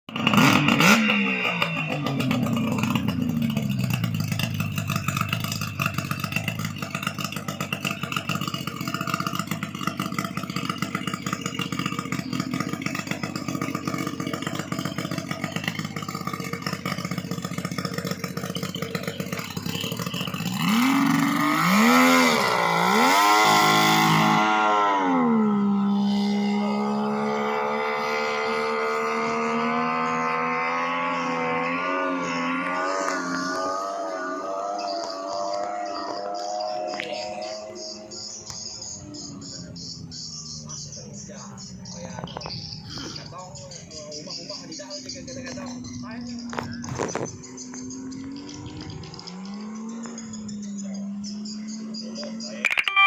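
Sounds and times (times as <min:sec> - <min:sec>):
outboard motor running: 0:00.4 - 0:52.8.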